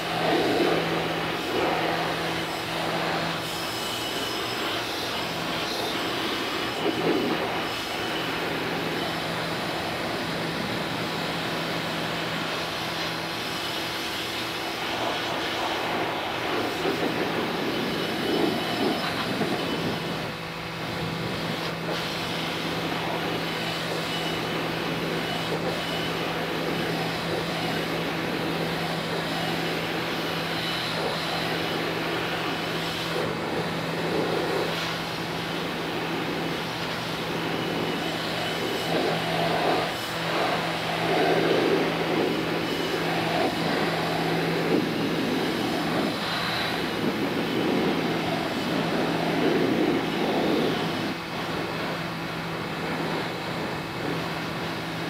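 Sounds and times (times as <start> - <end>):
pressure washer motor humming: 0.0 - 55.0
water jet spraying metal filter: 0.0 - 55.0.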